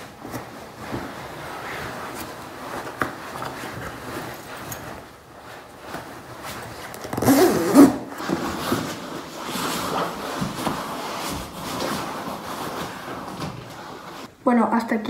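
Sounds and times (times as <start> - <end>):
jacket rasping: 0.0 - 14.3
padded jacket rustling: 0.0 - 14.3.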